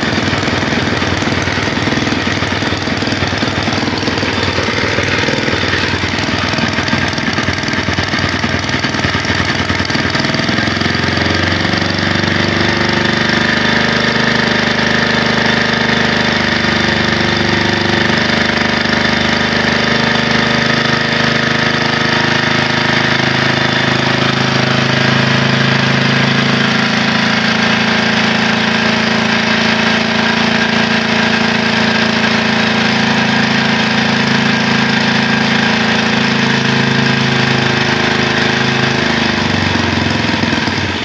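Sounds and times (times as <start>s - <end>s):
pump engine running: 0.0s - 41.0s.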